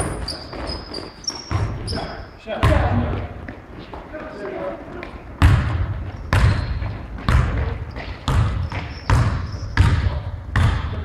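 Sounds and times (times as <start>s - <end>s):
basketball bouncing on hard court: 0.0s - 3.6s, 5.0s - 11.0s.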